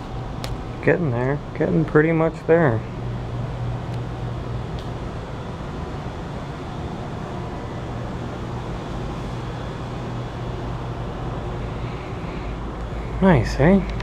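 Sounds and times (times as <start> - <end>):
low mechanical hum: 0.0 - 14.0
rush of air noise: 2.7 - 14.0.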